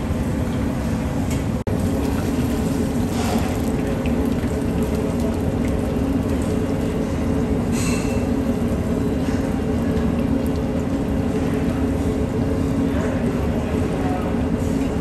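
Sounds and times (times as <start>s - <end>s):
kitchen mechanical rumble: 0.0s - 15.0s.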